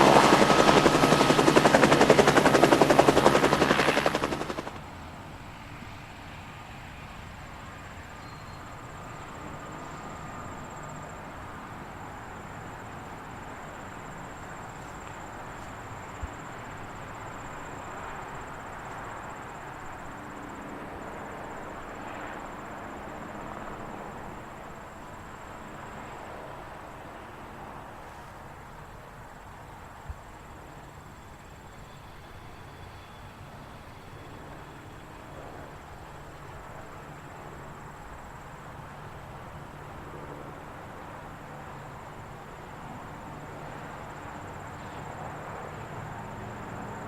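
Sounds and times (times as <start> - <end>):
distant jet engine rush: 0.0 - 47.0.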